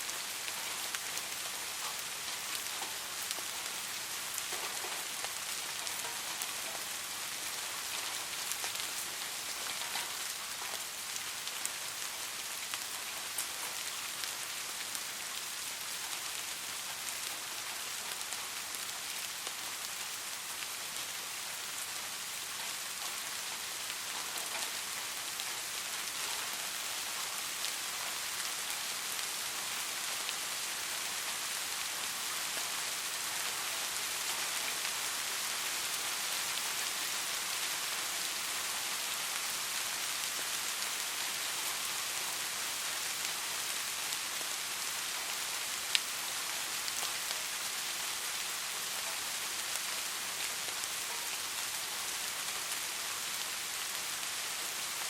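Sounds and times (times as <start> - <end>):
raindrops ticking on a surface: 0.0 - 55.0
soft rain: 0.0 - 55.0.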